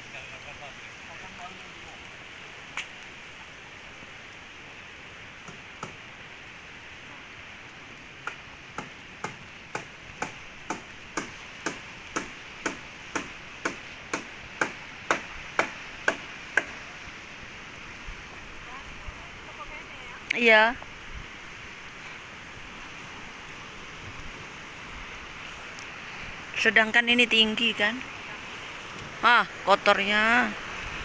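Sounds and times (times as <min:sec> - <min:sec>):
sea surf hissing: 0:00.0 - 0:31.0.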